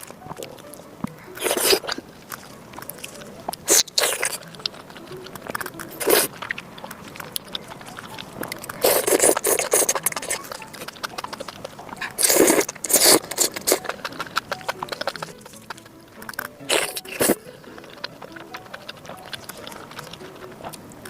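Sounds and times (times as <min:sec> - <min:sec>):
person eating: 0:00.0 - 0:21.0.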